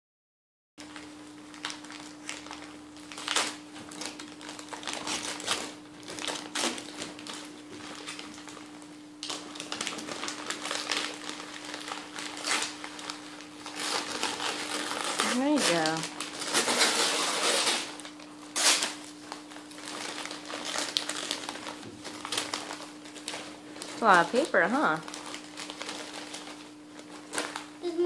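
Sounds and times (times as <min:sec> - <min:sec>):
wrapping paper crinkling and tearing: 0:00.8 - 0:28.0.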